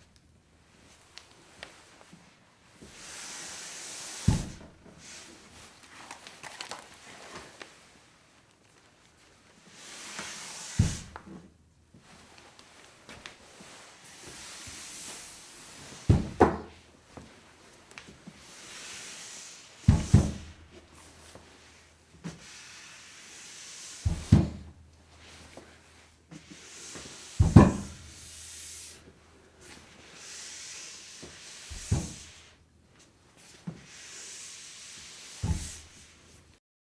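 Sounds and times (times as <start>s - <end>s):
shoes sliding across floor: 0.6s - 36.6s.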